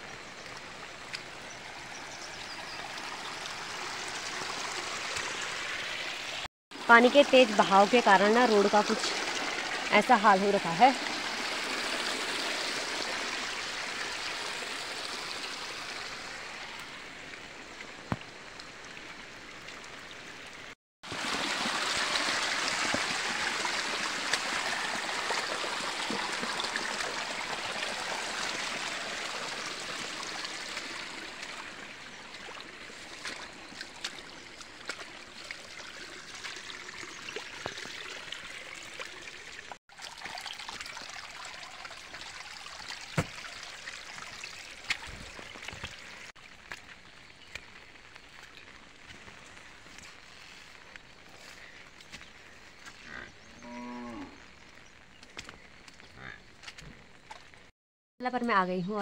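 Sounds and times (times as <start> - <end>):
water rushing over stones: 0.4 - 51.7.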